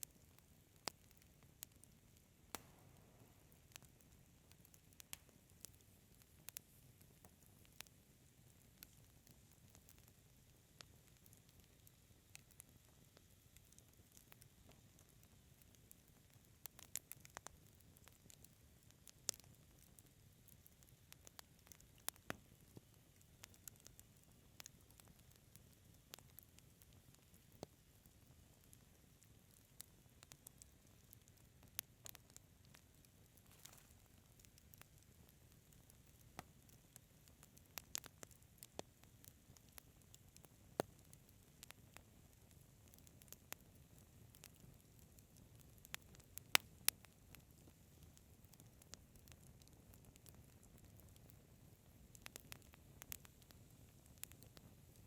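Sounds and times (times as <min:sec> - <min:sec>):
faint low hiss: 0:00.0 - 0:55.0
wood fire crackling: 0:00.0 - 0:55.0.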